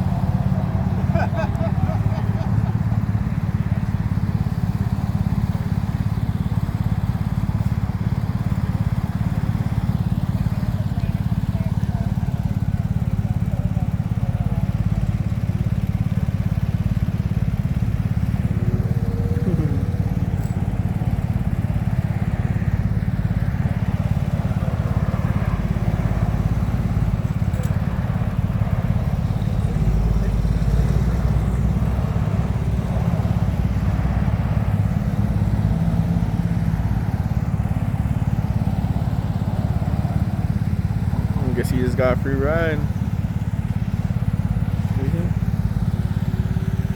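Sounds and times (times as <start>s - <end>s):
vehicle engines rumbling: 0.0s - 46.9s.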